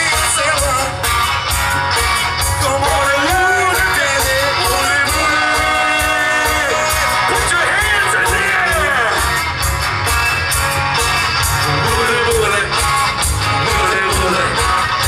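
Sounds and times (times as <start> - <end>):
lead guitar line bending: 0.0 - 15.0
live rock band playing: 0.0 - 15.0.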